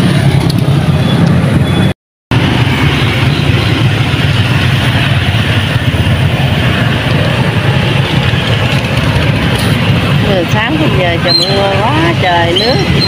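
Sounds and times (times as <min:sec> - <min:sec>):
motorbike engines running: 0:00.0 - 0:13.0
road traffic noise: 0:00.0 - 0:13.0.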